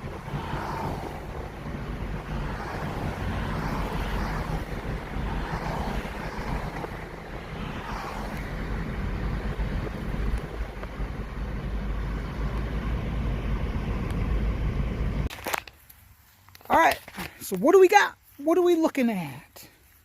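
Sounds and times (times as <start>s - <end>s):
car engine and tyre rumble: 0.0s - 20.0s
road and wind noise: 0.0s - 20.0s.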